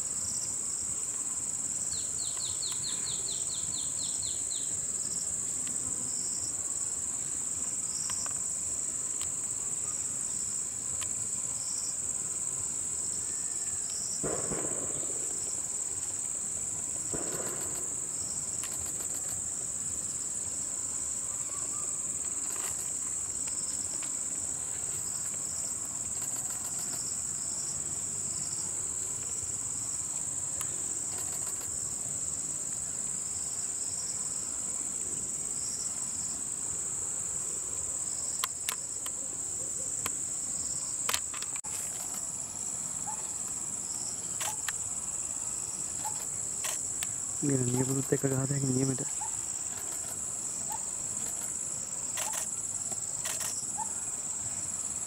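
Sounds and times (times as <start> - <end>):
insect chirping in pulses: 0.0 - 55.0
insect chorus drone: 0.0 - 55.0.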